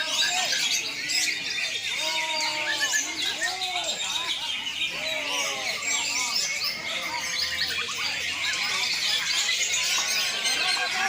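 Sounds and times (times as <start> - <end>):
birds warbling and chirping: 0.0 - 11.0.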